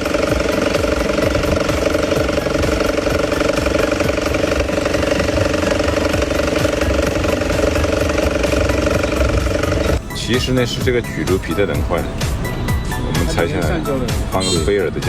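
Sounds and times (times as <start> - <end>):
car engine running: 0.0 - 15.0
rapid engine knocking: 0.0 - 15.0.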